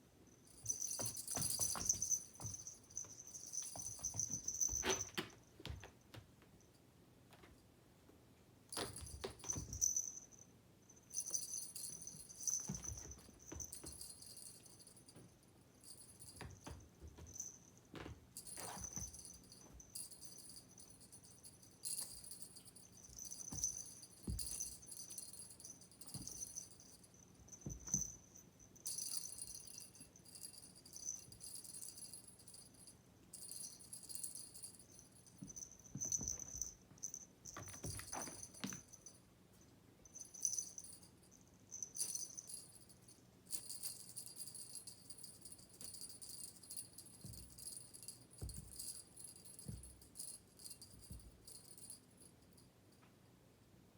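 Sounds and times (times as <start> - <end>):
small bell jingling: 0.2 - 6.0, 8.7 - 39.3, 40.0 - 52.7.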